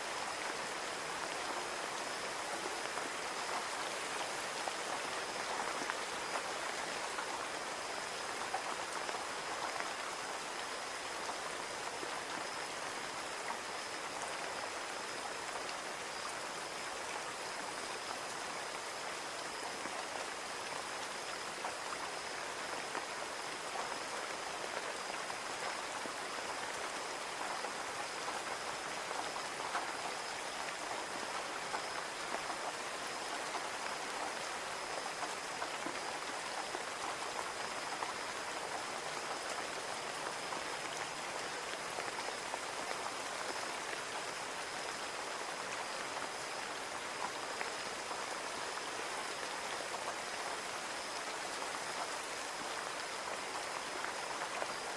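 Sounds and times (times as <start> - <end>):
rain on a window pane: 0.1 - 54.9.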